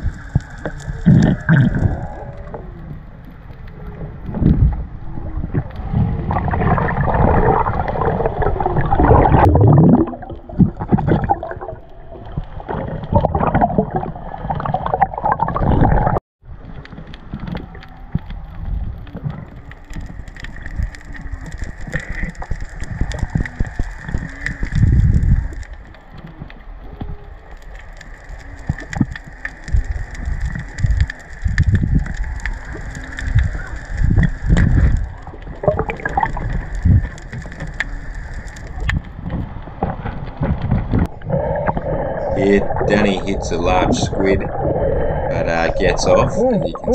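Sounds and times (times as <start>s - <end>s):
steady underwater hiss: 0.0s - 9.4s, 17.7s - 46.9s
underwater bubbling: 0.0s - 46.9s
underwater churning water: 0.0s - 46.9s.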